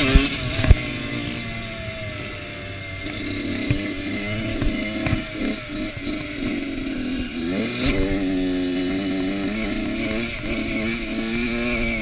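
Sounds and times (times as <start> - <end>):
two-stroke motocross engine: 0.0 - 12.0.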